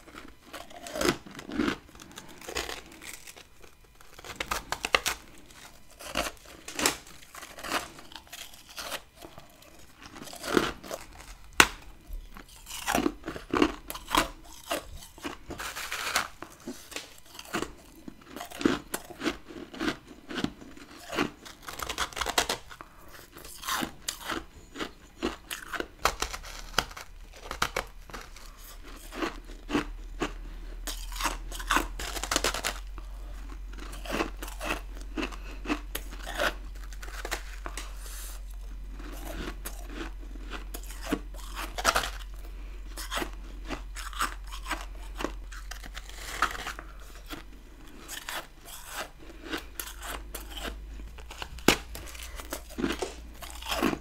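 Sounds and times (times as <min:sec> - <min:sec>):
chewing crunchy ice: 0:00.0 - 0:54.0.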